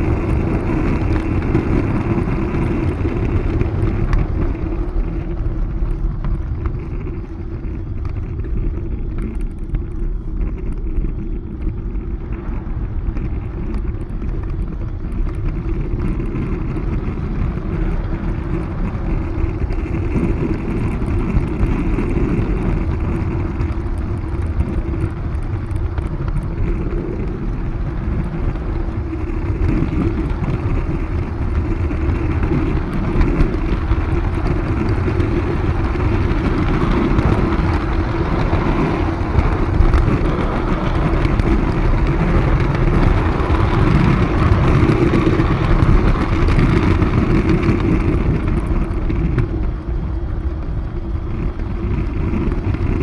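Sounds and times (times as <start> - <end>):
constant hum: 0.0 - 53.0
wheels rumbling on rails: 0.0 - 53.0.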